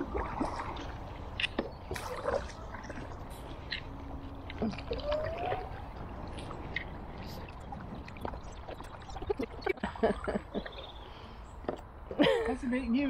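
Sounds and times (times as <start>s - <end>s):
water gurgles and drips: 0.0s - 12.3s
paddles pulling through water: 0.0s - 12.5s.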